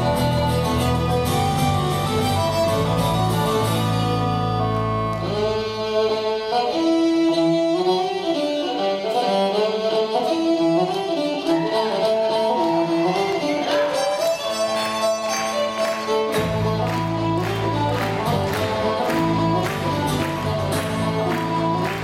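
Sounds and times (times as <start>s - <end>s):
fiddle-like melody: 0.0s - 22.0s.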